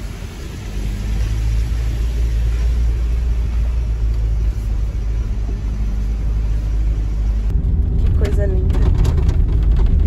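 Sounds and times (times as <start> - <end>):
vehicle engine and tyres rumbling: 0.0 - 10.0.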